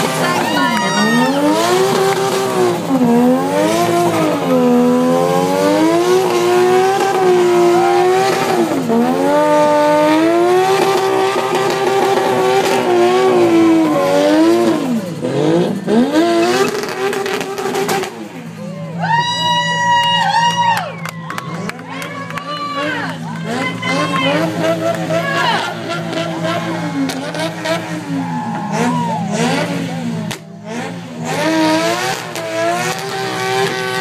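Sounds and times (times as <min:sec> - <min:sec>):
car engine revving hard: 0:00.0 - 0:18.7, 0:22.6 - 0:34.0.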